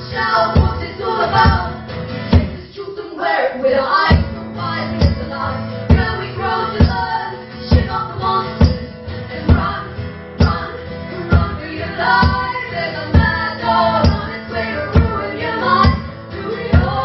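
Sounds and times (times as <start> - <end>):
guitars playing: 0.0 - 2.8, 3.6 - 17.0
voices singing: 0.0 - 17.0.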